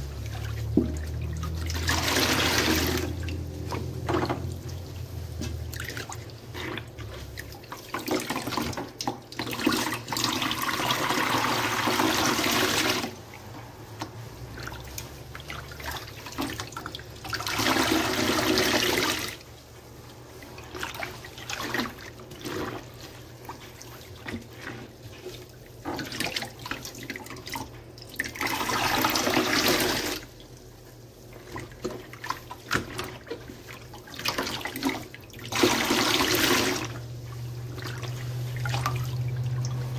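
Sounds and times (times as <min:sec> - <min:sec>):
water pouring: 0:00.0 - 0:13.6, 0:14.4 - 0:19.5, 0:20.2 - 0:30.6, 0:31.3 - 0:39.9
soapy sponge squelching: 0:00.0 - 0:39.9.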